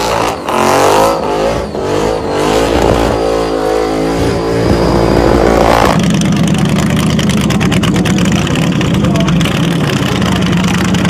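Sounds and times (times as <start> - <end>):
car engine revving: 0.0 - 11.0
steady low engine note: 0.0 - 11.0.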